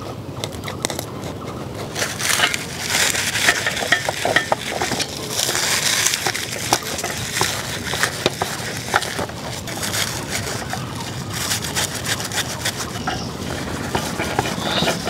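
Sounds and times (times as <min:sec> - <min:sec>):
leaves scraping fish skin: 0:00.0 - 0:15.0.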